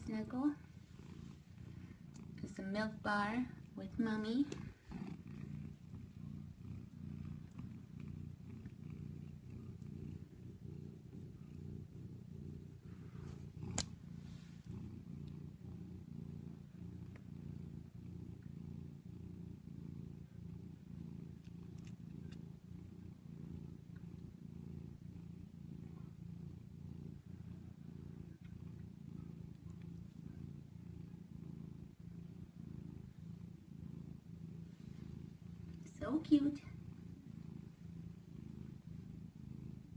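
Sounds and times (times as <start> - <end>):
cats purring: 0.0 - 39.9.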